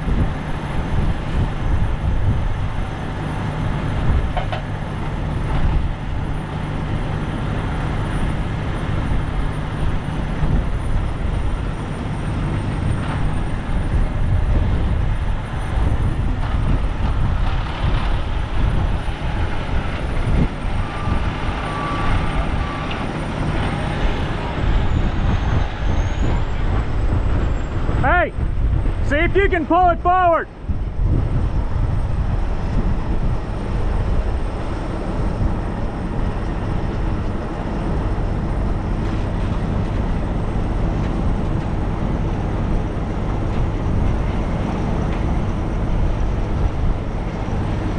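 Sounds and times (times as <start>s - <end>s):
truck engine running: 0.0s - 47.9s
wind buffeting microphone: 0.0s - 47.9s.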